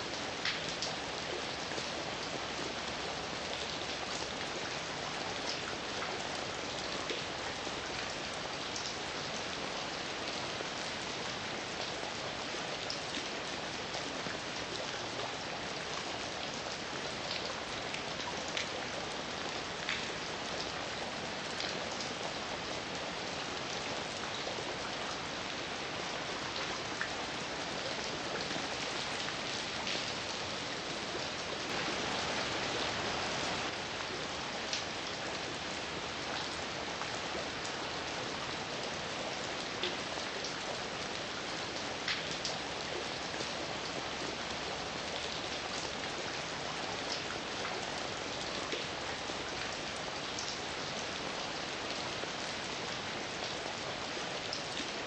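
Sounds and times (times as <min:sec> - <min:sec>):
raindrops hitting nearby: 0:00.0 - 0:55.0
steady rain hiss: 0:00.0 - 0:55.0.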